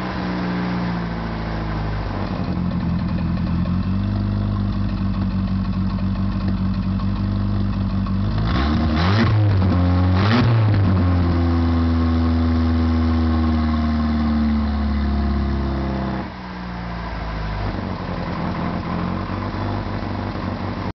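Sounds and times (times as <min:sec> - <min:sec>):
car engine exhaust revving: 0:00.0 - 0:20.9.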